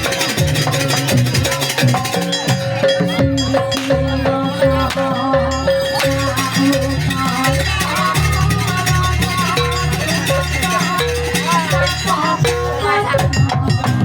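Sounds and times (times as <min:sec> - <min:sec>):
sliding melody line: 0:00.0 - 0:14.0
steady drumming: 0:00.0 - 0:14.0.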